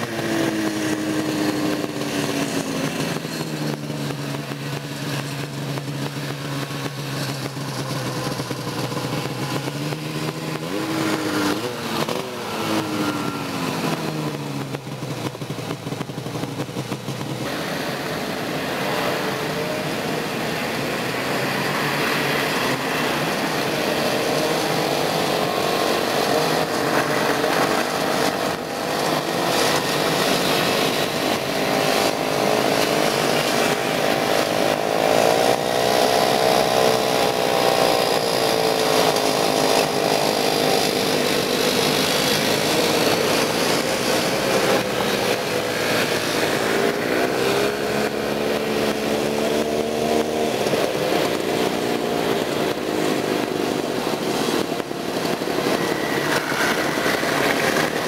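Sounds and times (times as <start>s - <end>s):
snowmobile engines passing: 0.0s - 58.0s.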